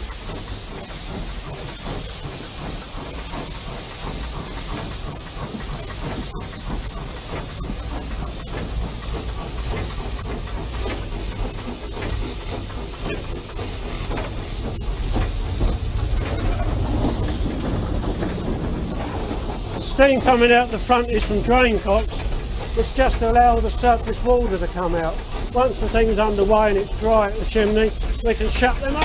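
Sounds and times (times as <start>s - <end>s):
hiss of steam: 0.0s - 29.0s
locomotive low rumble: 0.0s - 29.0s.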